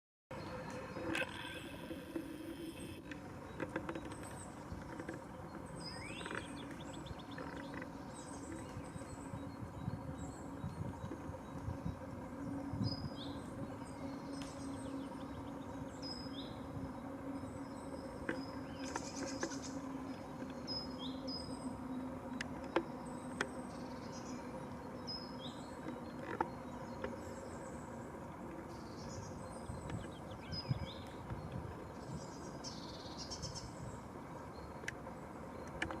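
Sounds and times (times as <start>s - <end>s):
low hum: 0.3s - 36.0s
small birds calling: 0.4s - 36.0s.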